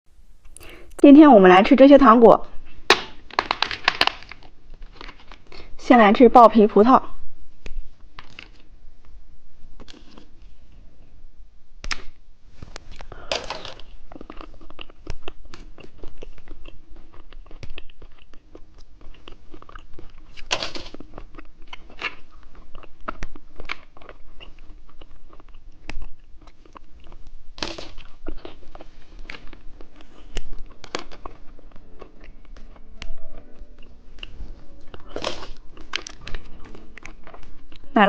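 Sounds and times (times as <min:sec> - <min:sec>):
crunching and chewing candy: 0:02.6 - 0:05.8, 0:07.5 - 0:11.0, 0:11.9 - 0:32.9, 0:34.2 - 0:38.0.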